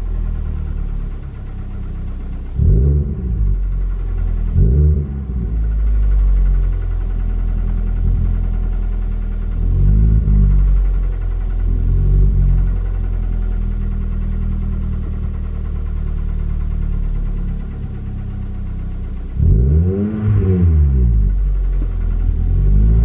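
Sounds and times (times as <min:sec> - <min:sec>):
car engine running and revving: 0:00.0 - 0:23.0.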